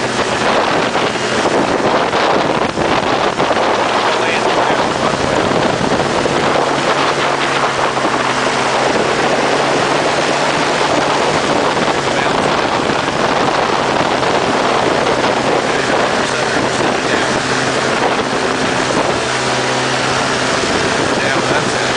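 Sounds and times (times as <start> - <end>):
engine and propeller running: 0.0 - 21.9
wind on microphone: 0.0 - 21.9.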